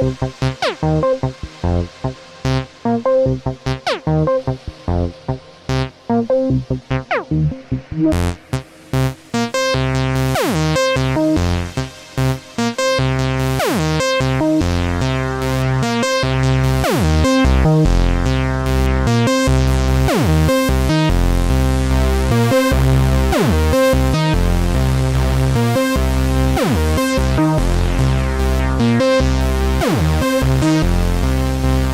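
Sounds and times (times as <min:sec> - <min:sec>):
synthesizer bassline with reverb: 0:00.0 - 0:31.9.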